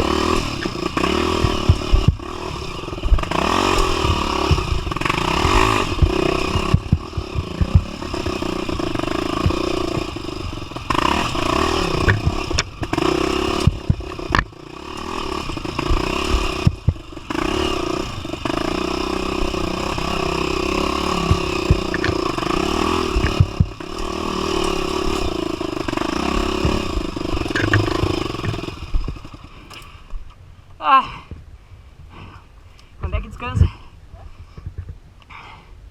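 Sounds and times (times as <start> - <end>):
motorcycle engine revving: 0.0 - 30.1
sharp knocks and rattles: 0.0 - 30.2.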